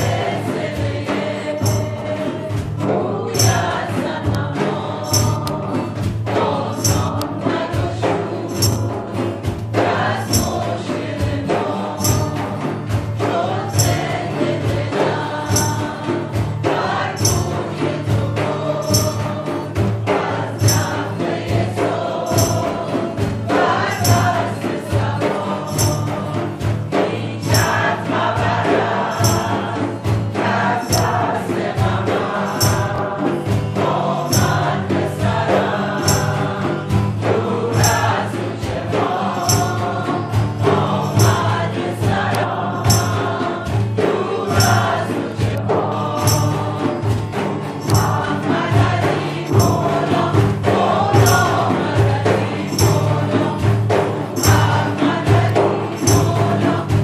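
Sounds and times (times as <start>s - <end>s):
frame drum beat: 0.0s - 57.0s
group singing a devotional chant: 0.0s - 57.0s
tambourine jingles: 0.0s - 57.0s.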